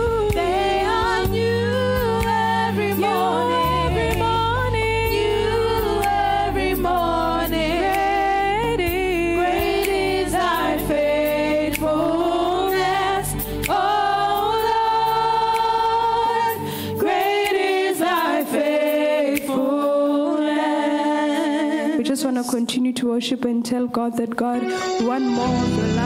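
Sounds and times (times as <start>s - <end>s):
woman singing gospel song: 0.0s - 26.0s.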